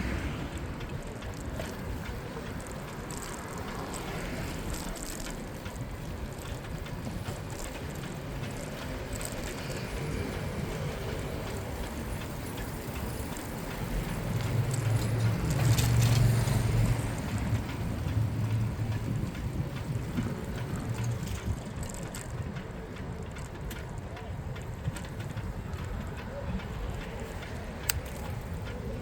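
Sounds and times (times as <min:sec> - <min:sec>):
bicycle tyre and wind noise: 0:00.0 - 0:29.0.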